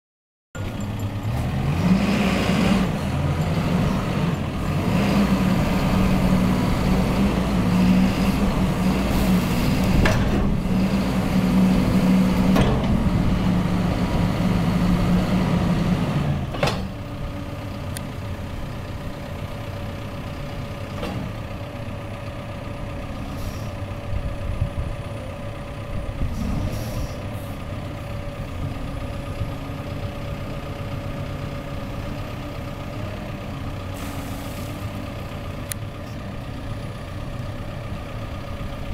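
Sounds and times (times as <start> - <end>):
diesel engine running: 0.6 - 38.9.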